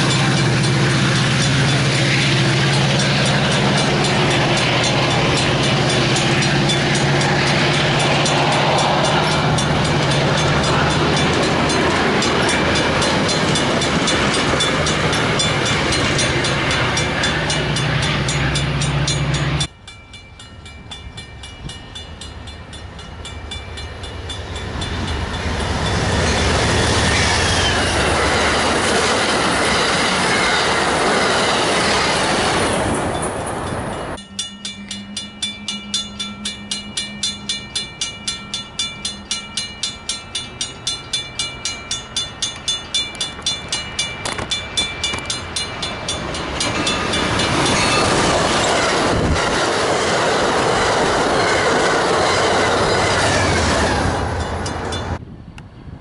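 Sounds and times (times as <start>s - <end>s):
grade crossing bell ringing: 0.0s - 27.2s, 32.7s - 55.2s
train passing with rail noise: 0.0s - 56.0s.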